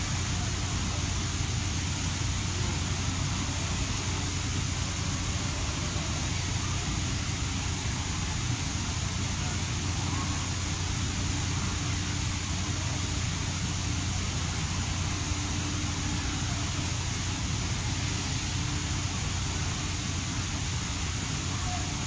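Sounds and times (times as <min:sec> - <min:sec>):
constant low hum: 0:00.0 - 0:22.0
even hiss: 0:00.0 - 0:22.0.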